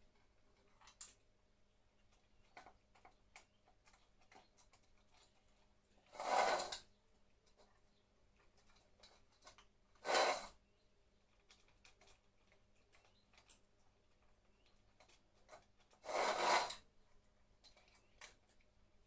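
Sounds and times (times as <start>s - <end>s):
cats chewing and licking: 0.0s - 19.0s.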